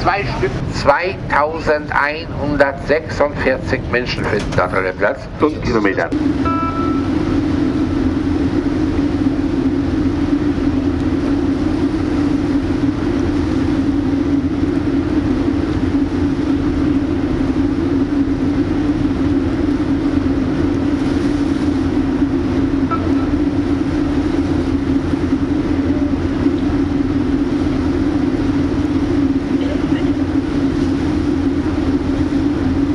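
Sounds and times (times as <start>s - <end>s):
engine drone: 0.0s - 32.9s
noisy rush: 0.0s - 32.9s.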